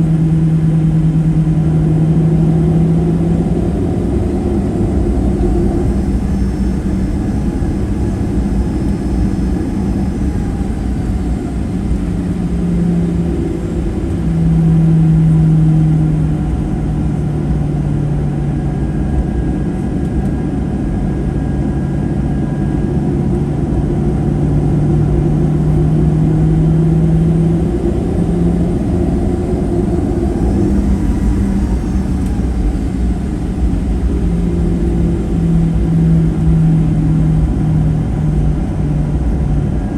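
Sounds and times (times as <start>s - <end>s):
jet engines humming in cabin: 0.0s - 39.9s.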